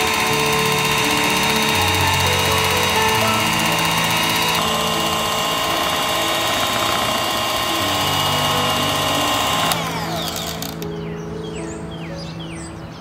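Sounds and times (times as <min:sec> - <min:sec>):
electric hand mixer whining: 0:00.0 - 0:10.8.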